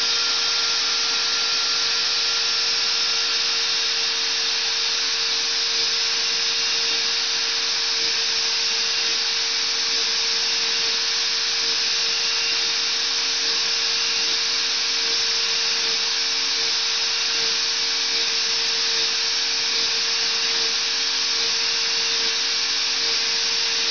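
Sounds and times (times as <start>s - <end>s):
router spindle whine: 0.0s - 23.9s.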